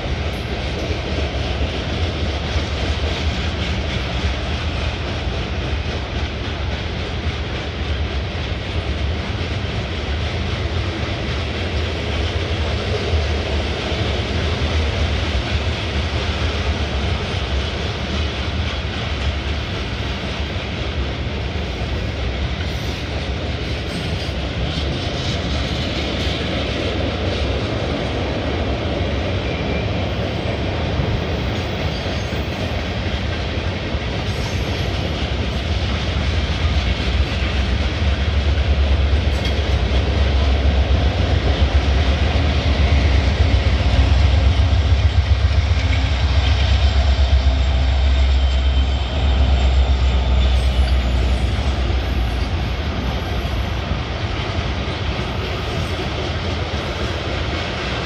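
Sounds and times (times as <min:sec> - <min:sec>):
freight train cars rolling past: 0:00.0 - 0:58.0.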